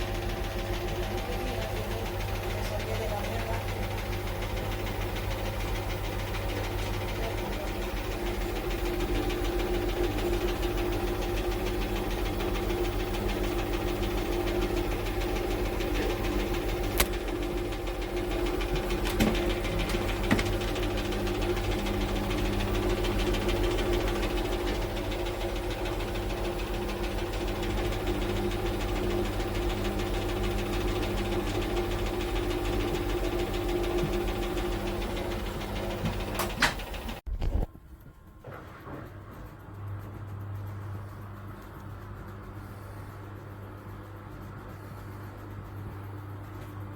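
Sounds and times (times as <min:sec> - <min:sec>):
washing machine motor hum: 0:00.0 - 0:46.9.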